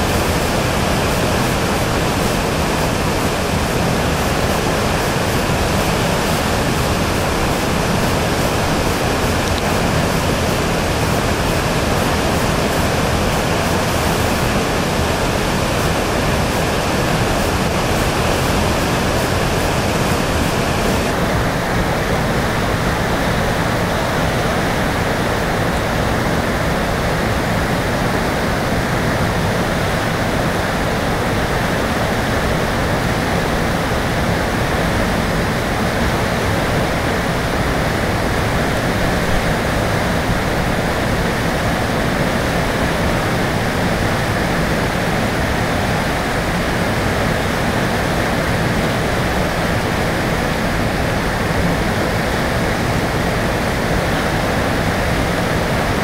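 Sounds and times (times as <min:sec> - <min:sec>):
turbulent river water rushing: 0:00.0 - 0:56.0.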